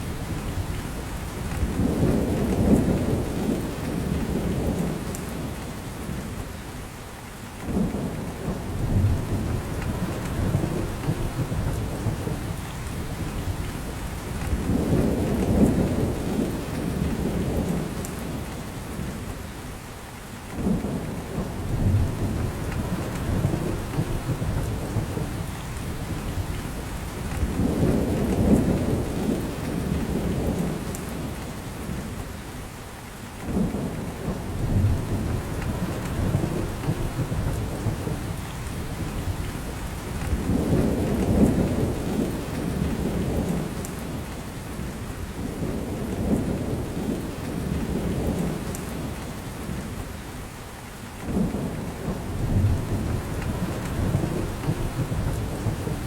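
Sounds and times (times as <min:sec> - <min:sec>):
rain falling on forest: 0:00.0 - 0:56.0.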